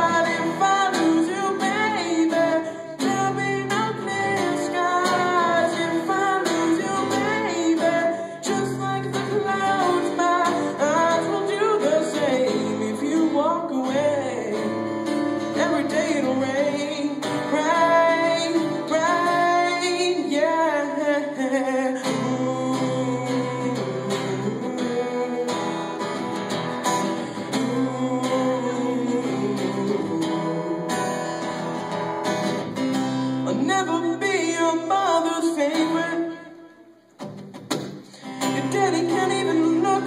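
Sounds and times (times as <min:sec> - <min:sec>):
person singing: 0:00.0 - 0:31.9, 0:33.3 - 0:36.6, 0:38.0 - 0:40.0
guitar chords: 0:00.0 - 0:40.0.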